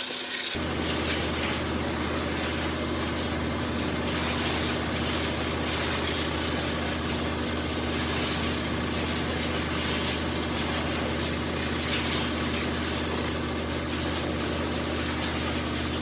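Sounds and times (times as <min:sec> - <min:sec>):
machine hissing and humming: 0:00.6 - 0:16.0.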